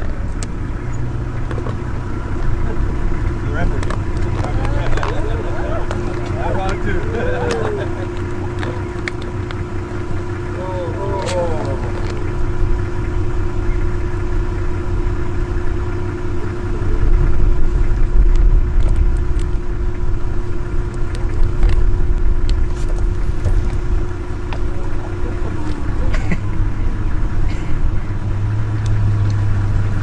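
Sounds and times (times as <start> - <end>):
steady hum: 0.0 - 30.0
vehicle engine rumbling: 0.0 - 30.0.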